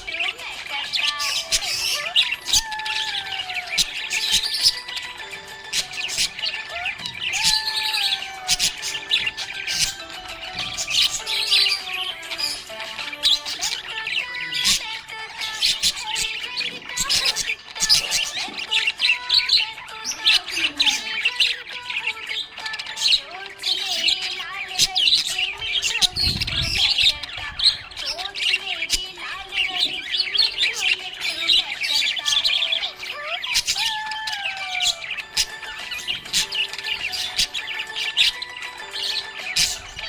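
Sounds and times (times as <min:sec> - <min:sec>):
parrots chirping and chattering: 0:00.0 - 0:40.0.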